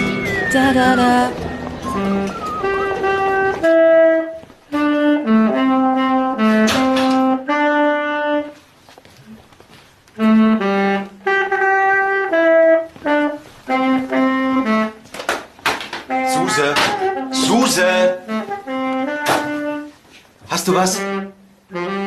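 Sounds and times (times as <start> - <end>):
saxophone practice: 0.0 - 22.0.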